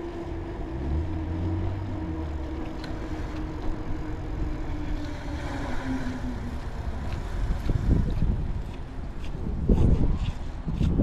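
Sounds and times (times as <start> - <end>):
vehicle engine humming: 0.0 - 9.7.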